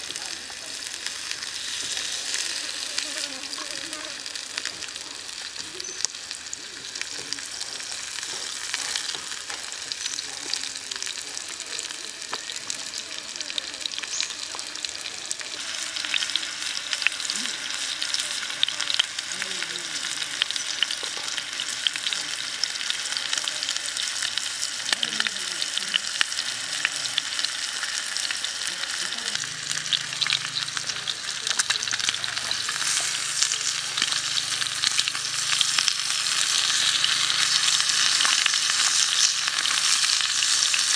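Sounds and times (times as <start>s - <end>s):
crackles and pops: 0.0s - 40.9s
meat sizzling in a frying pan: 0.0s - 40.9s.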